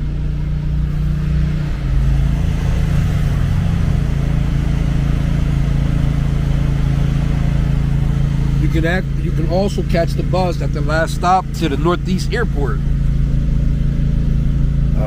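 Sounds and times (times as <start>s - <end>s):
road noise: 0.0s - 15.0s
vehicle engine drone: 0.0s - 15.0s.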